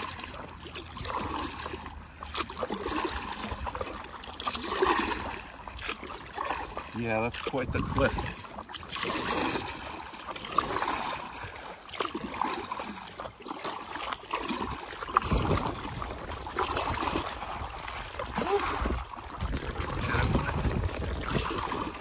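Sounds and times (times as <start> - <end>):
water lapping and gurgling: 0.0 - 22.0
water splashes: 0.0 - 22.0.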